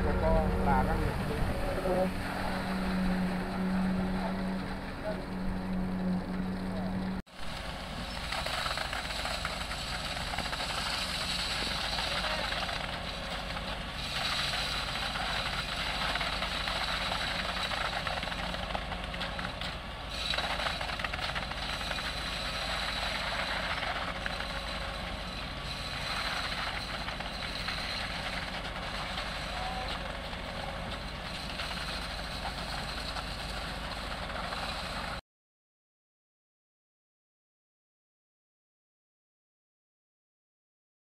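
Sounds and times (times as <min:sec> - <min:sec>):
heavy construction machinery running: 0:00.0 - 0:35.2.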